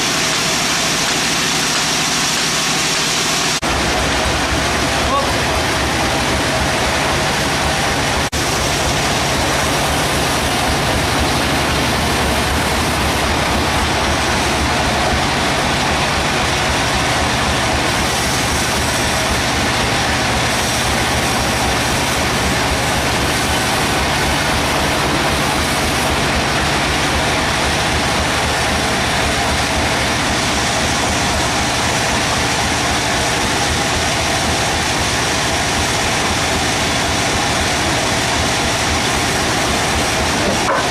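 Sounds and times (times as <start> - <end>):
band saw mechanical drone: 0.0 - 40.9.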